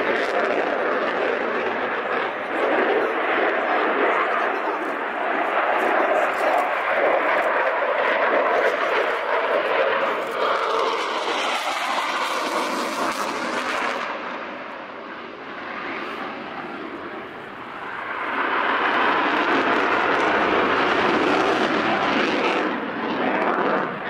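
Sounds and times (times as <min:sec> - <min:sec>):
jet engine passing: 0:00.0 - 0:24.0.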